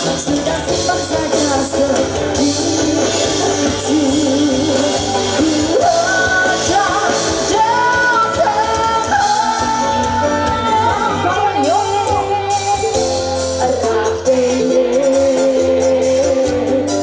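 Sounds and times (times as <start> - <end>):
lead singer singing: 0.0 - 17.0
pop band playing: 0.0 - 17.0.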